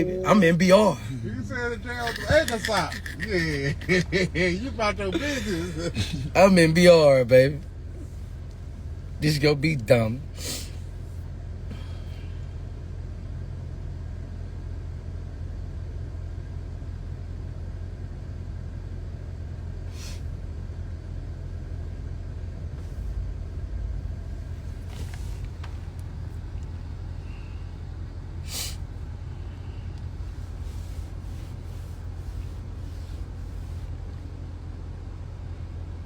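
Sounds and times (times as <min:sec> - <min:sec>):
car driving rumble: 0:00.0 - 0:18.6, 0:19.3 - 0:36.0.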